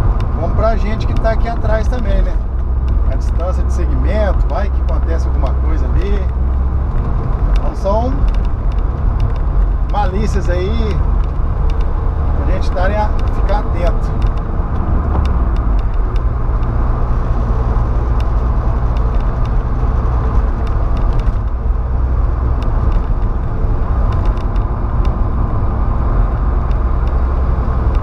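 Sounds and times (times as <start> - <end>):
in-cab road and engine rumble: 0.0 - 28.0.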